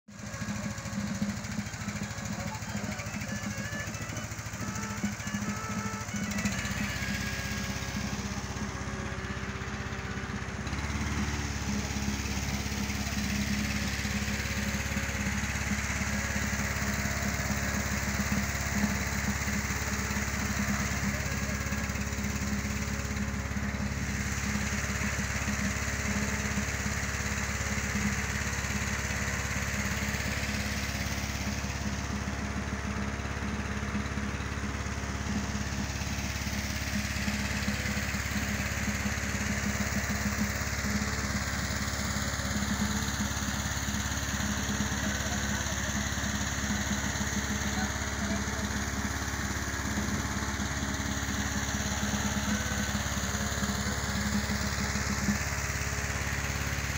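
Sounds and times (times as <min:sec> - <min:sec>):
engine inflator fan running: 0:00.0 - 0:56.9.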